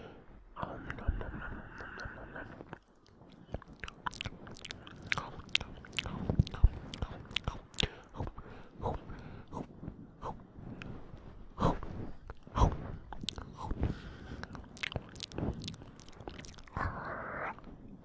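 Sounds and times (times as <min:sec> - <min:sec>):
wet mouth chewing sounds: 0:00.9 - 0:09.7, 0:11.6 - 0:17.7.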